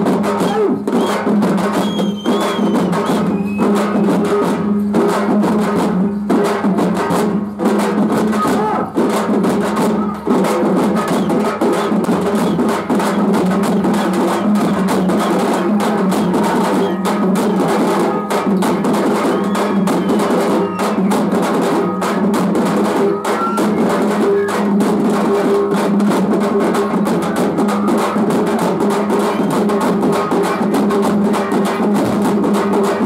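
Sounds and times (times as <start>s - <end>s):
drummers beating large drums: 0.0s - 33.0s.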